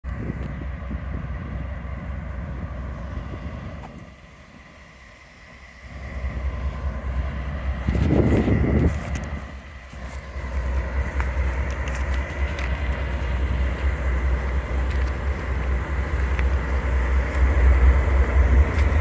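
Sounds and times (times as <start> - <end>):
locomotive engine rumble: 0.0 - 19.0.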